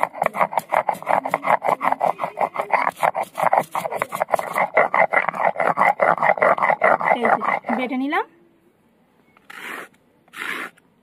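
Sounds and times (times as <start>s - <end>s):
stone grinding on stone: 0.0s - 8.0s, 9.5s - 10.8s.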